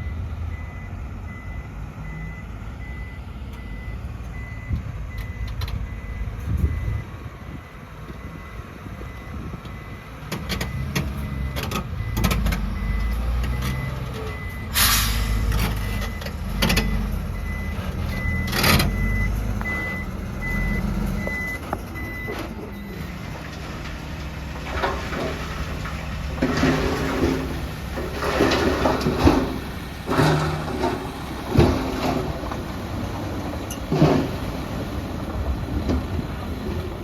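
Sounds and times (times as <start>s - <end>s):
truck backup alarm beeping: 0.0s - 37.0s
truck engine rumble: 0.0s - 37.0s.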